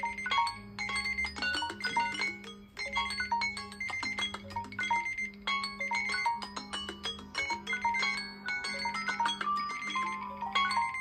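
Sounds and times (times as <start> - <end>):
overlapping timer alarm melodies: 0.0 - 11.0.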